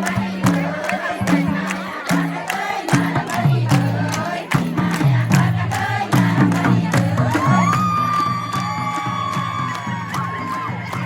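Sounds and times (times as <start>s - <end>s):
crowd noise: 0.0s - 11.0s
festival music with steady beat: 0.0s - 11.0s.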